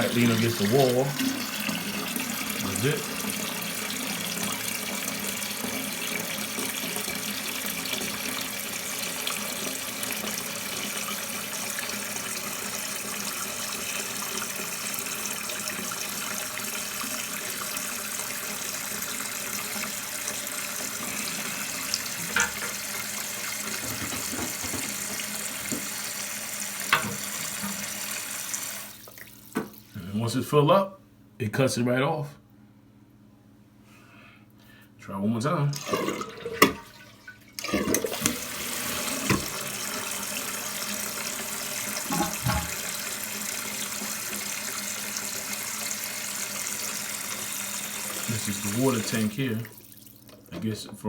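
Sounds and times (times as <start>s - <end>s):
toilet tank refilling hiss: 0.0s - 30.0s, 35.7s - 50.5s.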